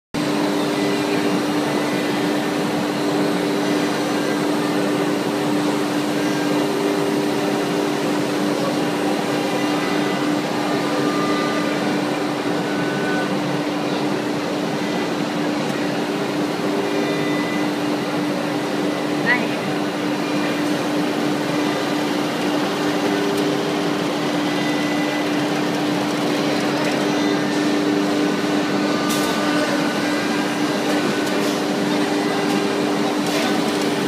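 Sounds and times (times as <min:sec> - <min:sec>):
router spindle humming: 0:00.2 - 0:34.0.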